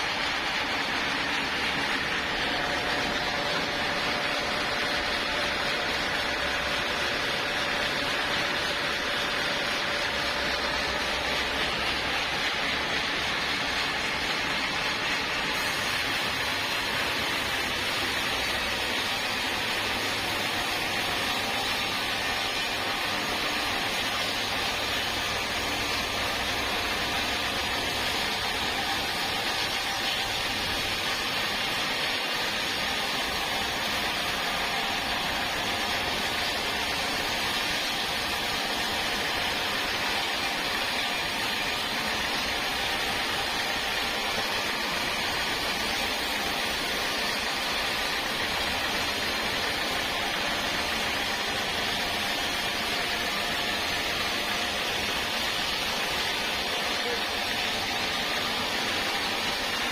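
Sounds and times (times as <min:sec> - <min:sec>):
sawmill machinery hiss: 0:00.0 - 0:59.9.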